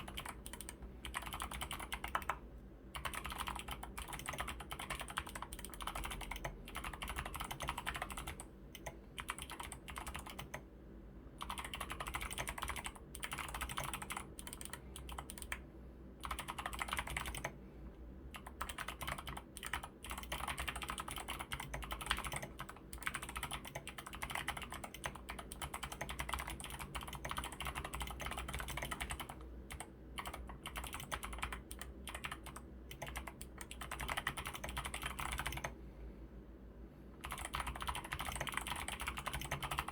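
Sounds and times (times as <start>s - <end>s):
clicky mechanical keyboard typing: 0.0s - 10.7s, 11.4s - 15.6s, 16.2s - 17.6s, 18.3s - 35.8s, 37.2s - 39.9s.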